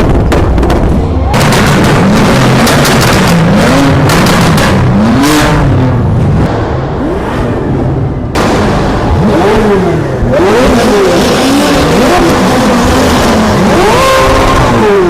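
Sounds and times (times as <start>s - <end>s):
vehicle exhausts revving: 0.2s - 15.0s.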